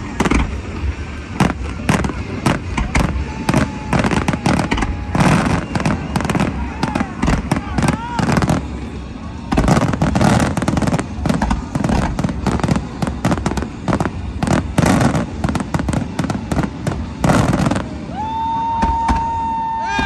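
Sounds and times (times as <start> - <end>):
fireworks explosions and cracks: 0.0 - 20.0.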